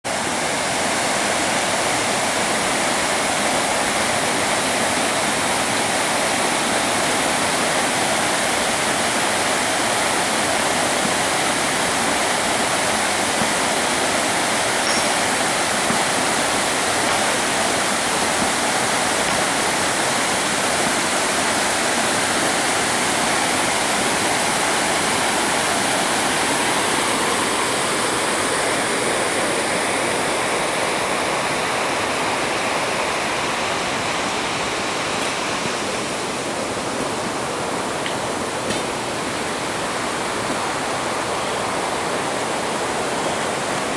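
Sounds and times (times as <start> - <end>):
waterfall rushing over stones: 0.1 - 43.9.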